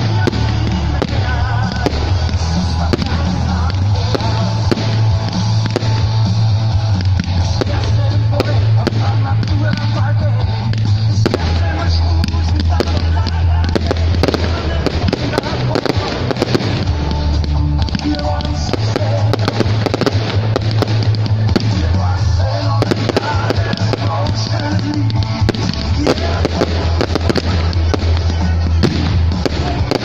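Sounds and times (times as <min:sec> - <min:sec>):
fireworks bangs and crackling pops: 0:00.0 - 0:30.0
music with deep bass: 0:00.0 - 0:30.0.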